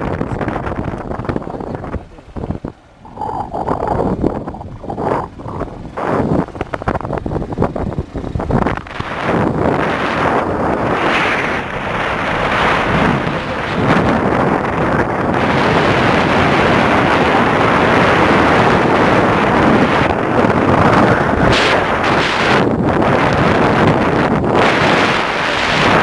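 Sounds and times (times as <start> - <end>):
vehicle road noise: 0.0 - 26.0
wind buffeting microphone: 0.0 - 26.0.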